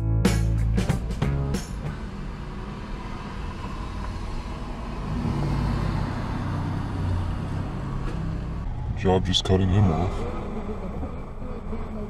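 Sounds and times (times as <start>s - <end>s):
road noise: 0.0s - 12.0s
car engine hum: 0.4s - 12.0s.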